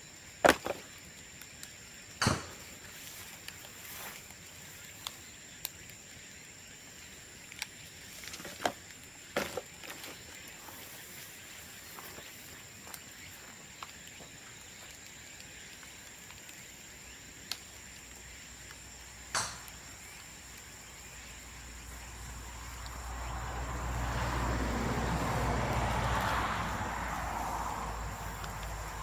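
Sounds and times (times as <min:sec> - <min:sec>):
bonfire crackling and popping: 0:00.2 - 0:29.0.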